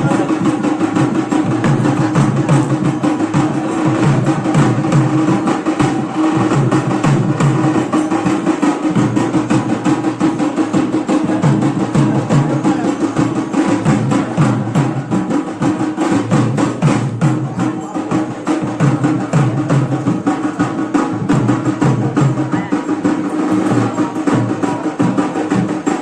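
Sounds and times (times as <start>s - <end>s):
drums playing fast rhythm: 0.0s - 26.0s.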